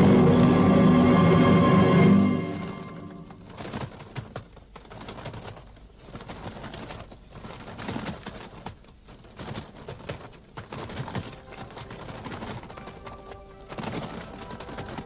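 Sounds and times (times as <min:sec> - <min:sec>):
bird wings flapping: 0:02.8 - 0:15.0.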